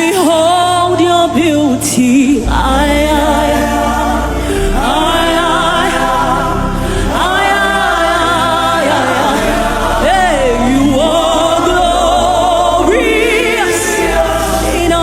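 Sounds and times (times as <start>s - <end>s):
choir and congregation singing: 0.0s - 15.0s
steady bass: 0.0s - 15.0s
keyboard pad: 2.4s - 15.0s.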